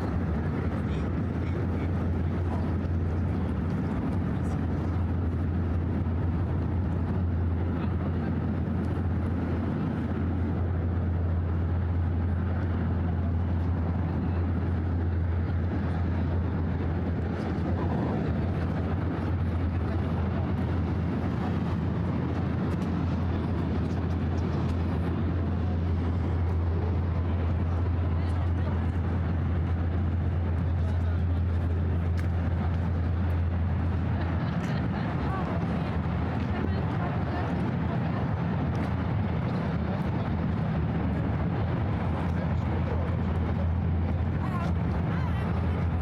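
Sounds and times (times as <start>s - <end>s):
city traffic rumble: 0.0s - 46.0s
constant low hum: 0.0s - 46.0s.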